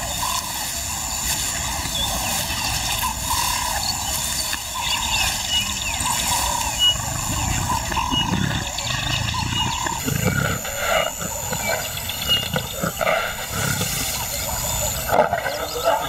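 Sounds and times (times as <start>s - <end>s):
lioness growling: 0.0s - 16.0s.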